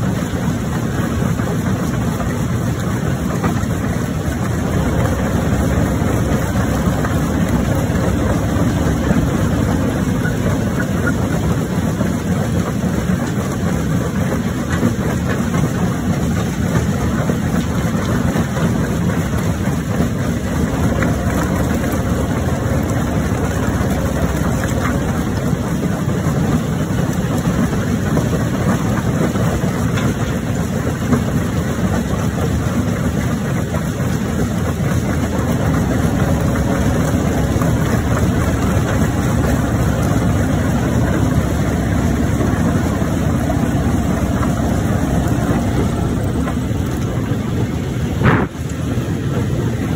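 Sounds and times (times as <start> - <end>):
rock crusher rumbling: 0.0 - 49.9.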